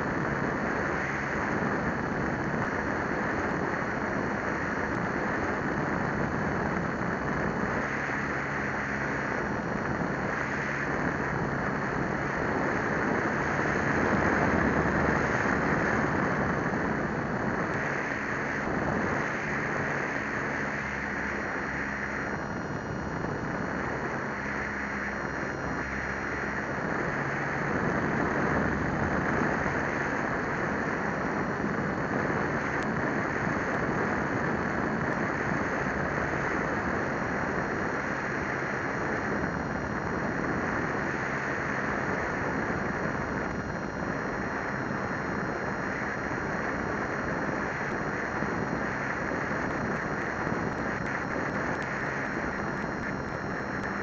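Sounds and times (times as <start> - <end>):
model plane motor drone: 0.0 - 54.0
wind rushing over microphone: 0.0 - 54.0.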